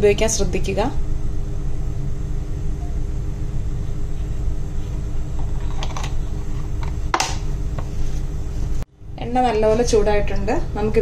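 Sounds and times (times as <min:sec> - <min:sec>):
low rumble and hum: 0:00.0 - 0:11.0.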